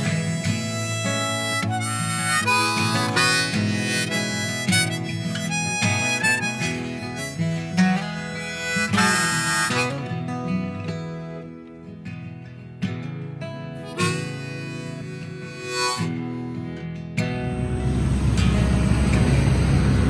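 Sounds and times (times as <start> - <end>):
harmonica tune: 0.0 - 11.7, 13.4 - 20.0
strummed acoustic guitar: 0.0 - 20.0.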